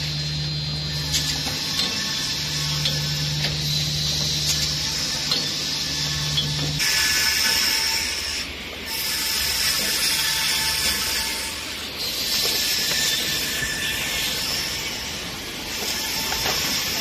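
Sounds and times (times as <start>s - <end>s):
circular saw machine humming: 0.0s - 17.0s.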